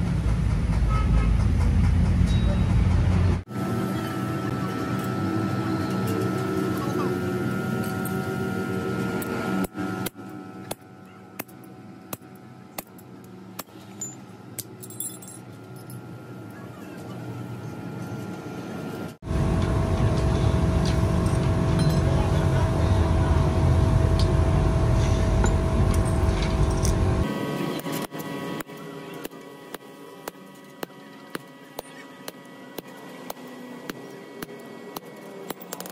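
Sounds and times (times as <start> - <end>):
machine running with hum: 0.0 - 35.9.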